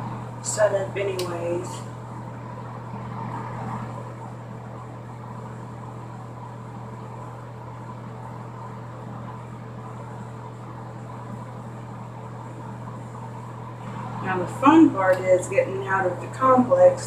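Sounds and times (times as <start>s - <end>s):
exhaust fan humming: 0.0s - 17.0s.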